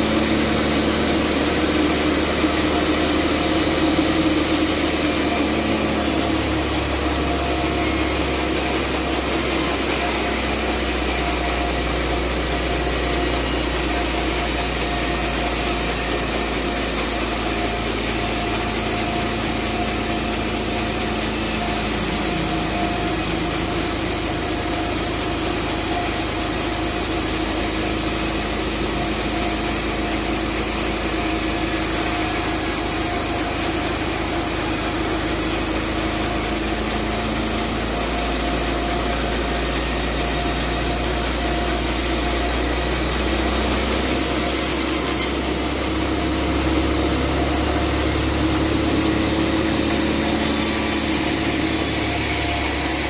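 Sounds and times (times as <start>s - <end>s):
band saw cutting timber: 0.0s - 53.0s.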